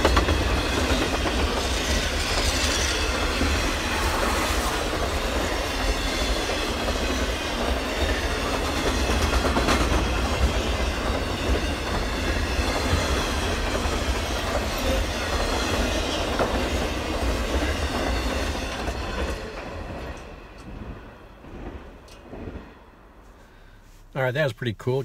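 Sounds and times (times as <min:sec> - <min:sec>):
freight train wheels clacking on rail: 0:00.0 - 0:22.7.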